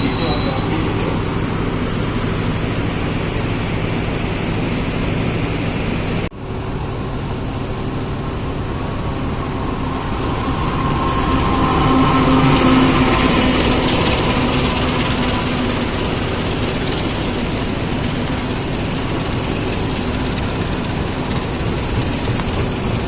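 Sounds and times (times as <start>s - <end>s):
diesel locomotive engine hum: 0.0s - 23.0s.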